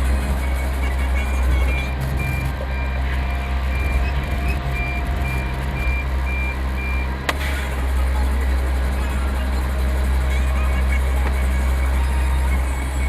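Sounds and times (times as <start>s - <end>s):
truck backup alarm beeping: 0.0s - 13.0s
truck engine running: 0.0s - 13.0s.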